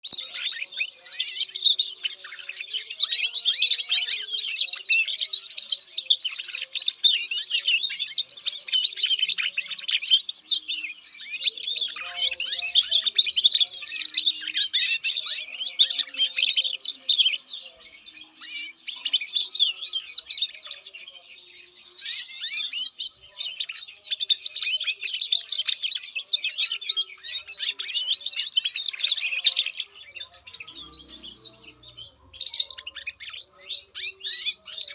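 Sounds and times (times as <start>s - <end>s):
canary singing warbling trills: 0.0s - 34.9s.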